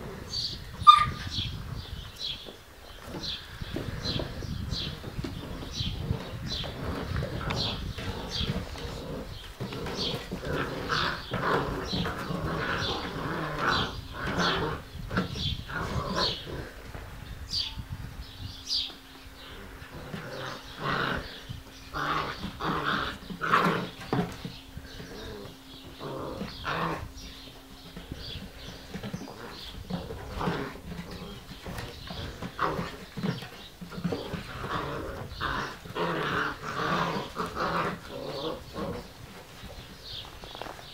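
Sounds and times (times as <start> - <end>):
puppies growling and yapping: 0.0 - 17.0, 19.3 - 40.9.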